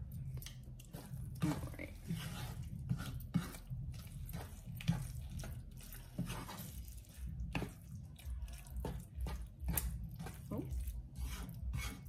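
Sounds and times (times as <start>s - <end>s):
low steady hum: 0.0s - 12.0s
utensil scraping and knocking in bowl: 0.4s - 12.0s.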